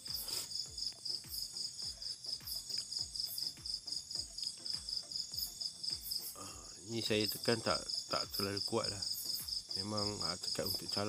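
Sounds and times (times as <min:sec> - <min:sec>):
insects chirping trill: 0:00.0 - 0:11.0.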